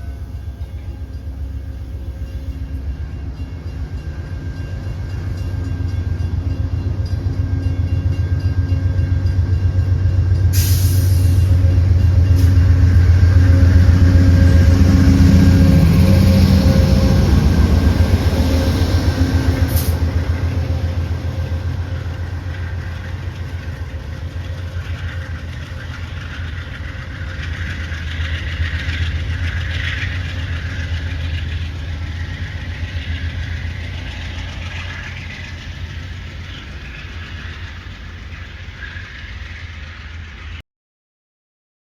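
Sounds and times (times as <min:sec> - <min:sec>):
train rumbling: 0:00.0 - 0:40.6.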